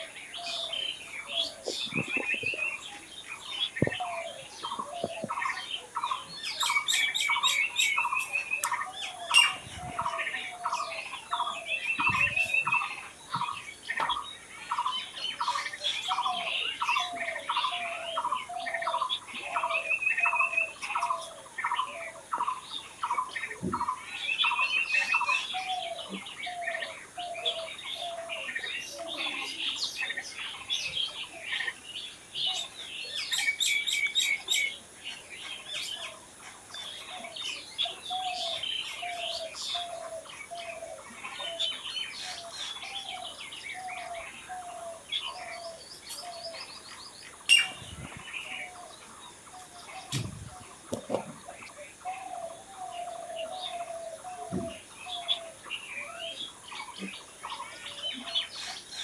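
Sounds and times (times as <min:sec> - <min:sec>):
birds singing and chirping: 0:00.0 - 0:59.0.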